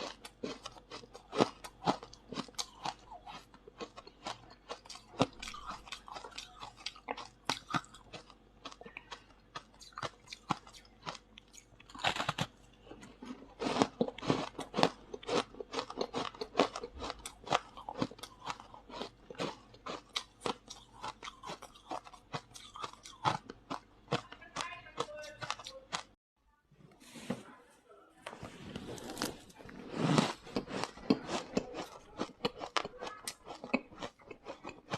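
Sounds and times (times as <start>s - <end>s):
ice being chewed: 0.0s - 26.2s, 28.7s - 34.9s.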